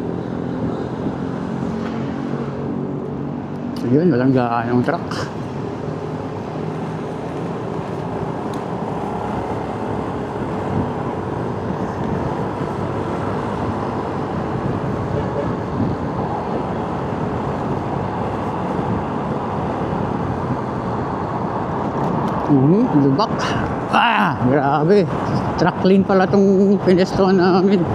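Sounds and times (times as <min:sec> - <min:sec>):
motorcycle riding in traffic: 0:00.0 - 0:27.9.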